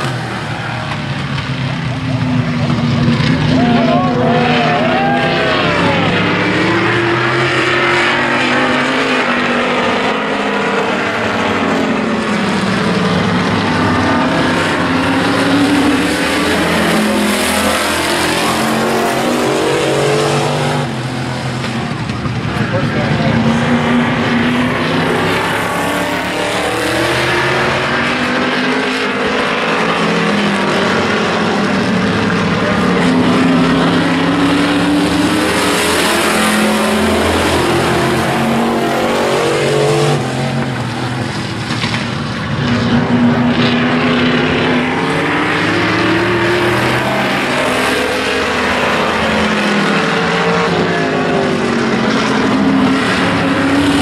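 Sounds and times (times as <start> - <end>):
race car engines running hard: 0.0 - 54.0.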